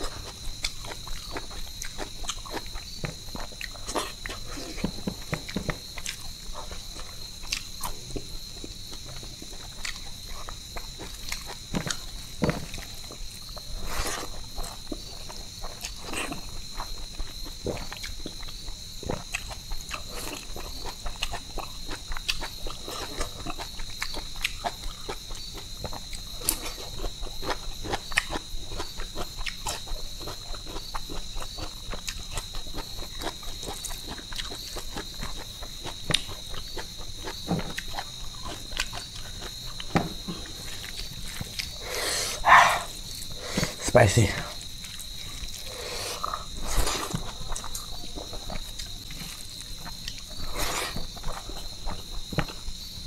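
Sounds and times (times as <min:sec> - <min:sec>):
person chewing: 0:00.0 - 0:43.9, 0:44.6 - 0:52.6
high-pitched insect drone: 0:05.9 - 0:53.0.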